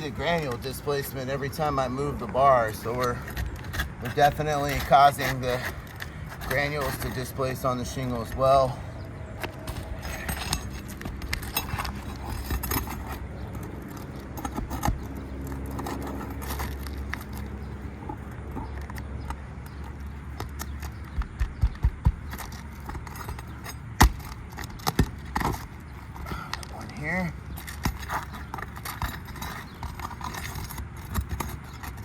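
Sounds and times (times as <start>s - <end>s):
pry bar scraping shingles: 0.0s - 32.0s.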